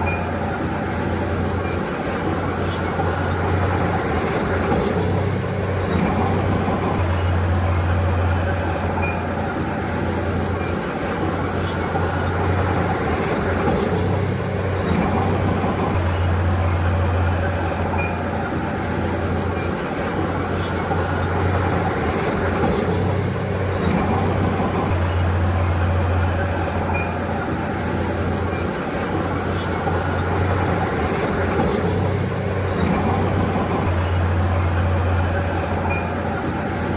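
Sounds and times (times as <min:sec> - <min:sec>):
bulldozer diesel engine droning: 0:00.0 - 0:36.9
squeaks and clicks from tracks: 0:00.0 - 0:36.9.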